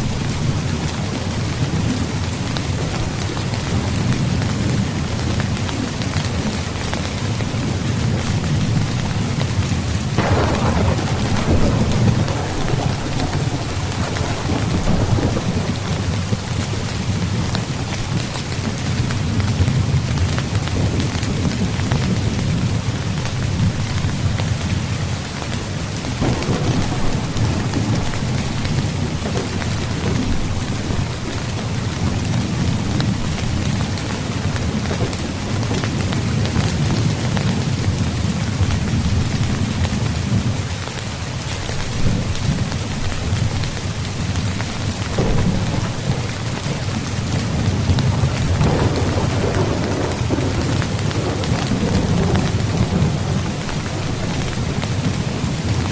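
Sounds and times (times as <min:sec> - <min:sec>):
rain pattering on a tent: 0:00.0 - 0:55.9.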